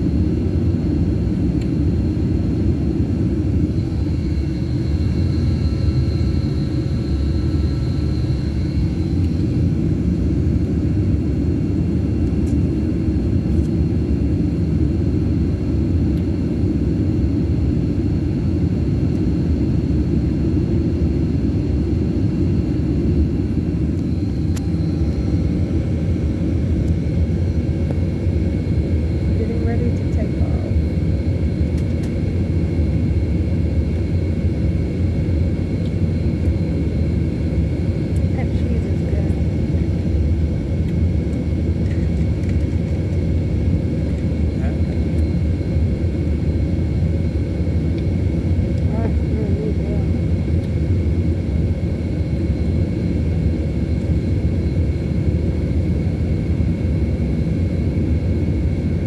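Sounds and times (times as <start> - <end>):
faint high whine: 0.0 - 59.0
jet engines rumbling in cabin: 0.0 - 59.0.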